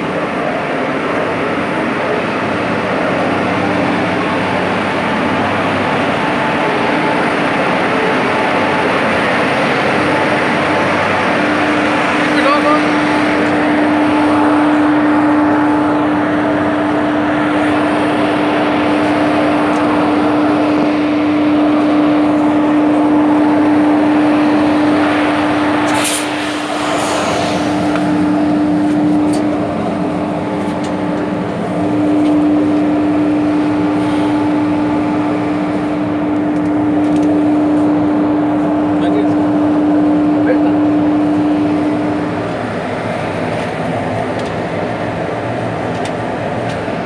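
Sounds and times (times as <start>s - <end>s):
locomotive machinery hum and whir: 0.0s - 47.0s.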